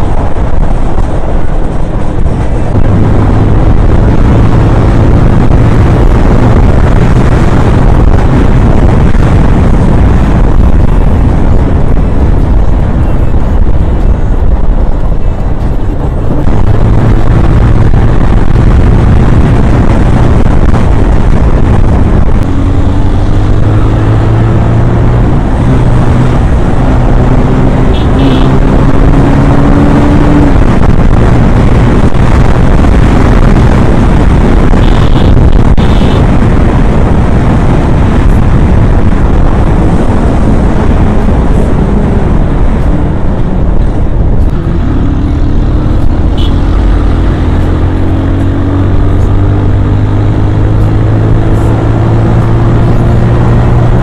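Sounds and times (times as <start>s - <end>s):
motorcycle engine accelerating: 0.0s - 54.0s
wind and road rush: 0.0s - 54.0s.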